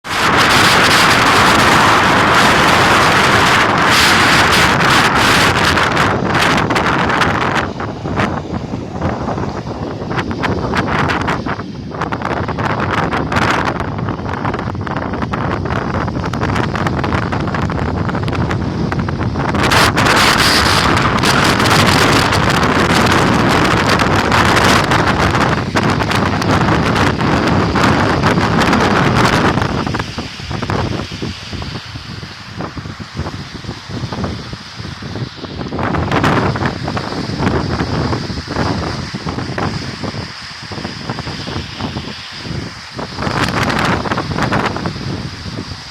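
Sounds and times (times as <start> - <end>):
strong wind blowing: 0.0 - 45.9
wind noise on microphone: 0.0 - 45.9.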